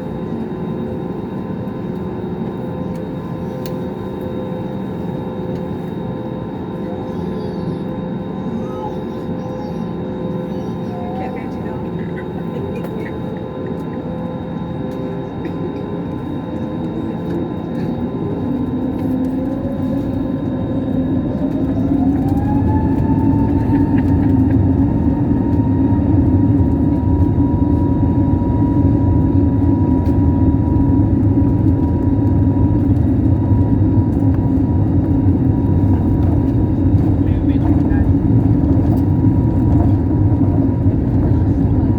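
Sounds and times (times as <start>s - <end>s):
jet engine rumble: 0.0s - 41.9s
jet engine whine: 0.0s - 41.9s.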